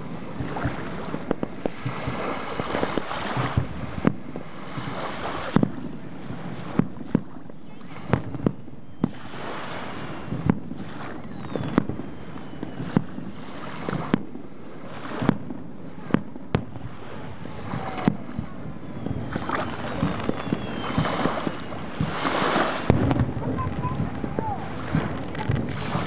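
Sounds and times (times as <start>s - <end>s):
distant fireworks booming: 0.0s - 26.0s
small waves on shore: 0.0s - 26.0s.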